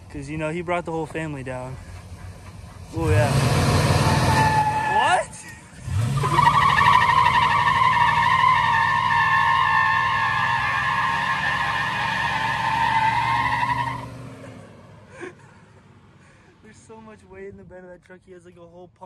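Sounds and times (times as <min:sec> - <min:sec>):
tire squealing: 0:00.0 - 0:16.0
truck engine running: 0:00.0 - 0:16.0.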